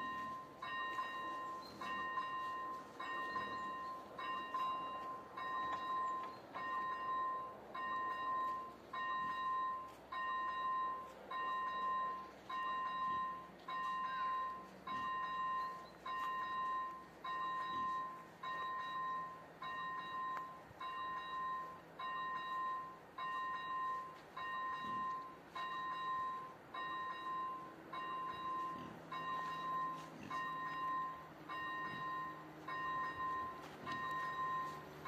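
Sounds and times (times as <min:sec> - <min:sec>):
electronic warning bell: 0:00.0 - 0:35.0.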